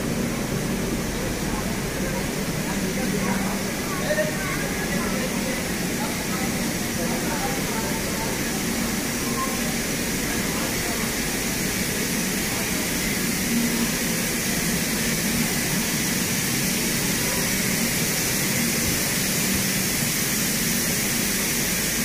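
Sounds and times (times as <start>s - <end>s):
train coaches rumbling past: 0.0s - 22.0s.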